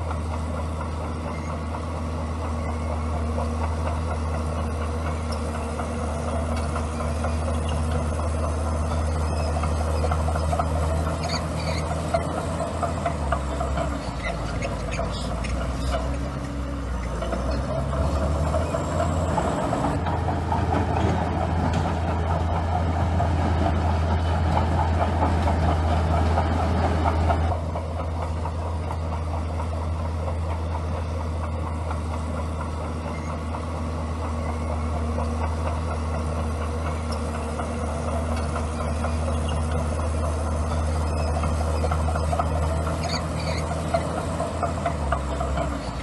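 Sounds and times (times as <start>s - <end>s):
bulldozer diesel engine running: 0.0s - 46.0s
rough clattering working noise: 0.0s - 46.0s.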